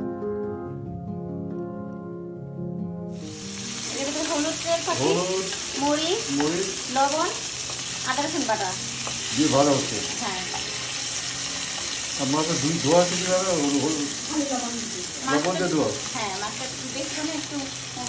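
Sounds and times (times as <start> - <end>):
fish sizzling in oil: 3.1 - 18.0.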